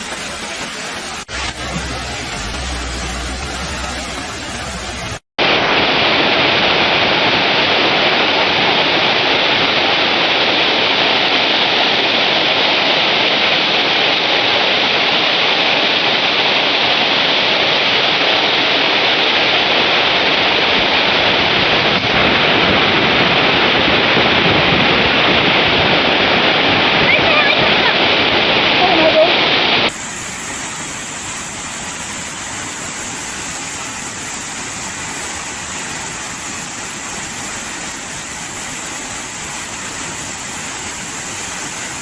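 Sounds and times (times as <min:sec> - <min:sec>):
fast-flowing floodwater rushing: 0:00.0 - 0:42.0.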